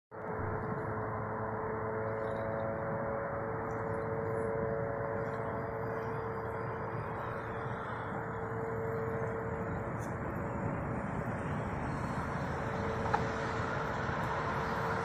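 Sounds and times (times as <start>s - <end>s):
low traffic hum: 0.2s - 15.0s
road traffic hiss: 0.2s - 15.0s.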